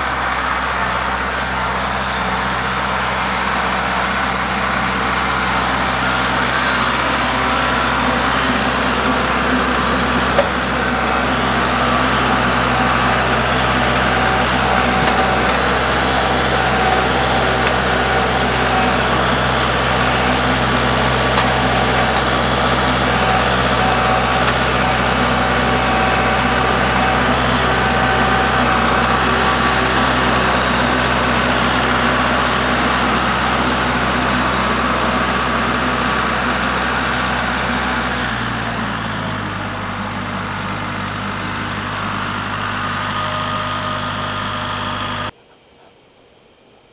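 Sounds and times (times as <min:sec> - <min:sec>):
tractor diesel engine running: 0:00.0 - 0:45.4.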